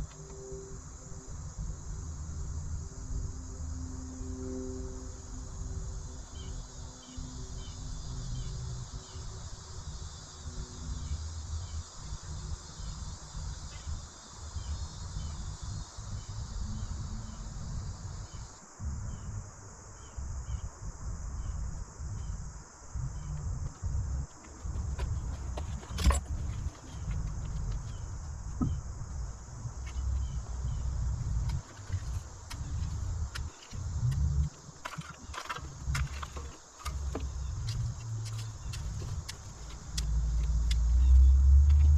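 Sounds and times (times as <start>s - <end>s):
insects chirping: 0.0s - 41.9s
wind buffeting microphone: 7.6s - 41.9s.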